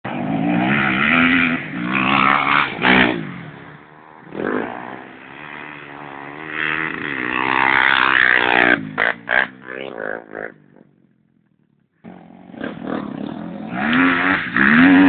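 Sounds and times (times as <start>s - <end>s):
dirt bike engine revving: 0.1s - 11.0s, 12.0s - 15.0s.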